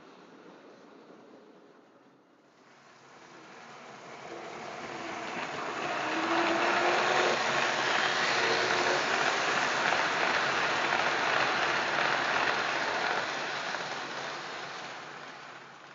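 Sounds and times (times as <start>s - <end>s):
model train wheels rumbling on rails: 0.2s - 15.9s.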